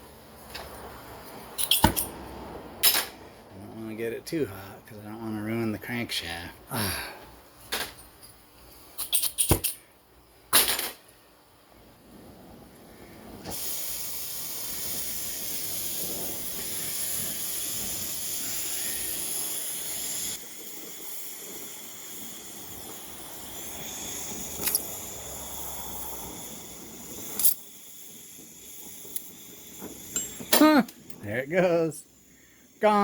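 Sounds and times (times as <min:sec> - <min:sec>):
torch flame hissing: 0:00.0 - 0:04.8, 0:10.6 - 0:33.0.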